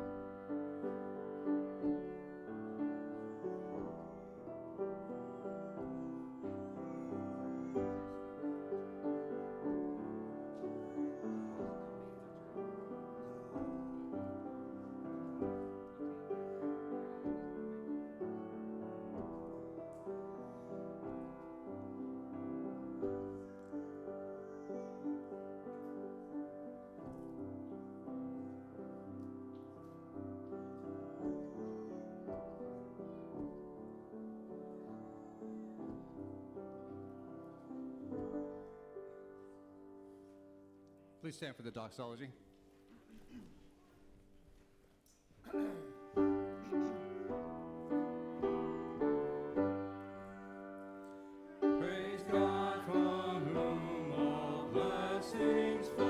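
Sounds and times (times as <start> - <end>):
piano piece: 0.0 - 41.4, 45.4 - 56.0.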